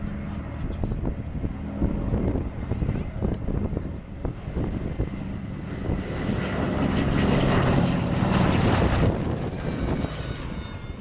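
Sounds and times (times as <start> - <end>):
propeller plane droning past: 0.0 - 11.0.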